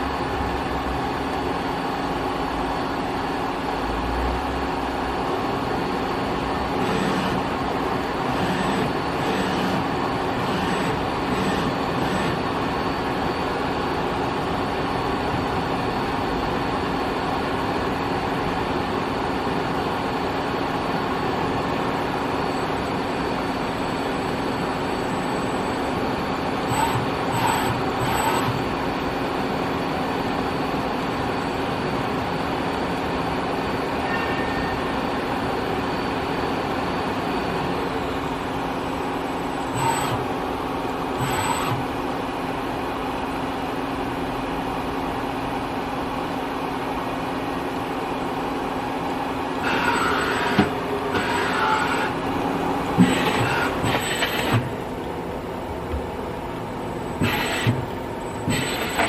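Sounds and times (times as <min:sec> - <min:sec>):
lathe mechanical hum and hiss: 0:00.0 - 0:59.0.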